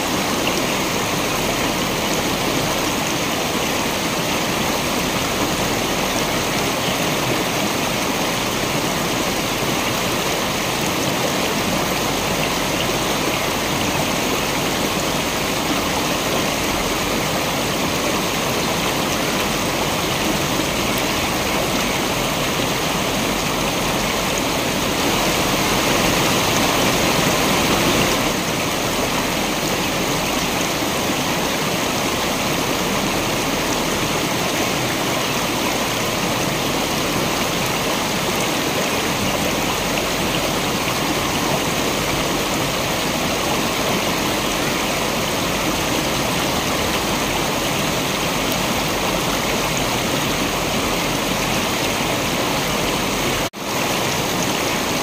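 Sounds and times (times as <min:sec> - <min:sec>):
waterfall water rushing: 0:00.0 - 0:55.0.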